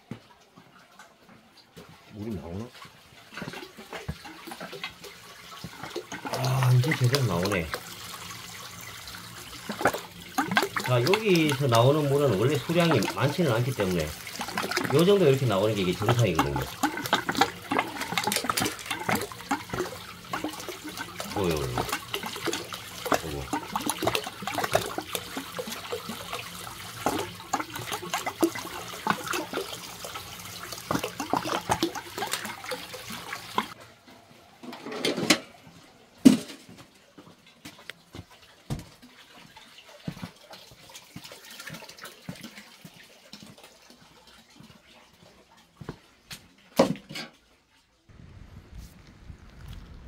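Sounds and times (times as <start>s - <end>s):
water from hose splashing into tub: 1.7s - 33.8s, 36.2s - 47.4s.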